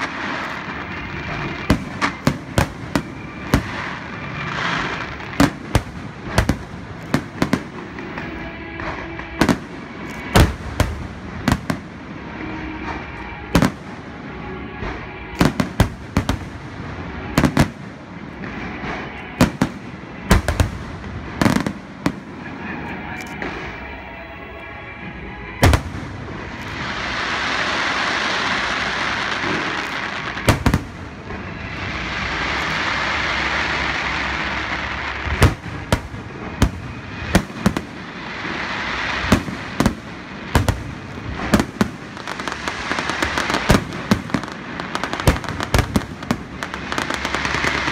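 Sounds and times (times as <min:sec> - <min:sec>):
crackling firework hiss: 0:00.0 - 0:47.9.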